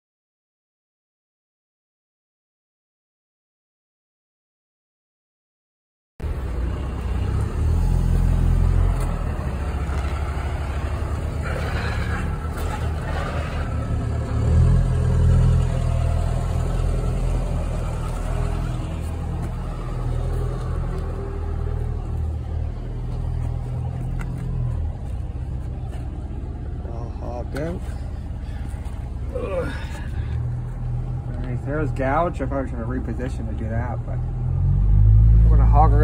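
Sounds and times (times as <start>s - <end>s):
engine droning: 6.2s - 36.0s.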